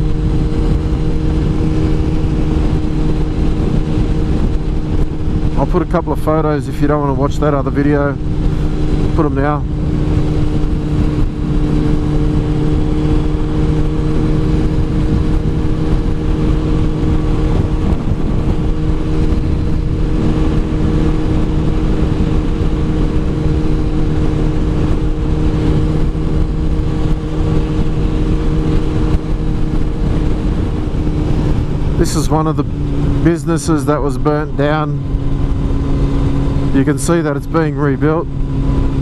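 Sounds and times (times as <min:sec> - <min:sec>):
motorcycle engine cruising: 0:00.0 - 0:39.0
wind noise on microphone: 0:00.0 - 0:39.0.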